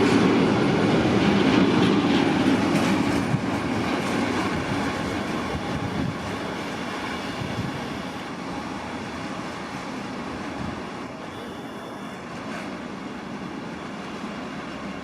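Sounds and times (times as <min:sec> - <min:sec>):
train rumble and wheel noise: 0:00.0 - 0:15.0.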